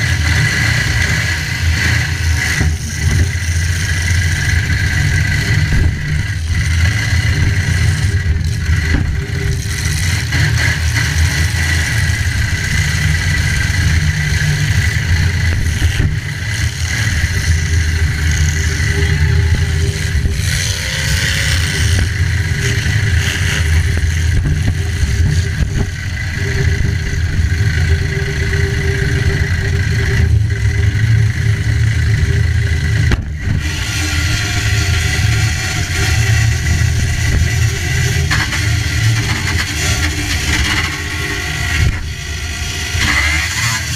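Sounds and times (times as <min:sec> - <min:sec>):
car engines revving: 0:00.0 - 0:43.9.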